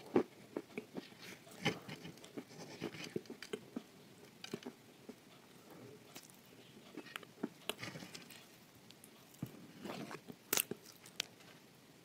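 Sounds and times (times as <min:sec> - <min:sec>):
chewing clay crunching: 0:00.0 - 0:11.4.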